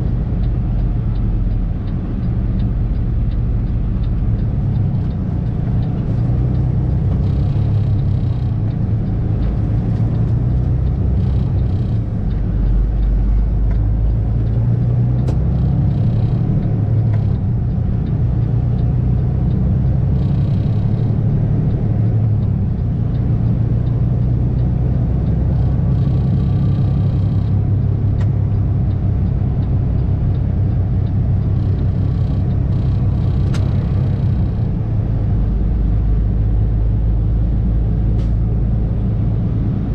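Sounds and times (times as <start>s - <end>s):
diesel truck engine rumble: 0.0s - 39.9s.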